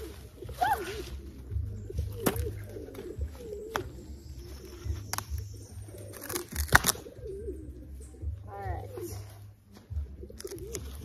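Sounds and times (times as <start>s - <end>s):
birds cooing: 0.0s - 11.0s.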